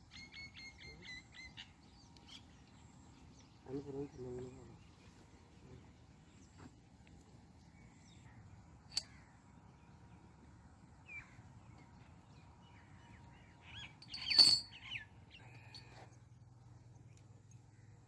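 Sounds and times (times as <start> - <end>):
small bird chirping: 0.0 - 18.0.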